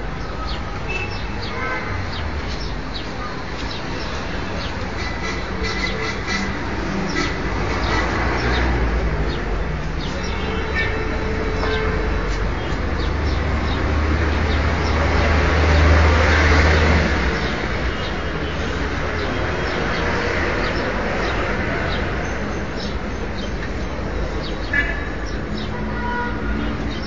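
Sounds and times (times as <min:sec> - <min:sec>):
traffic noise: 0:00.0 - 0:27.0.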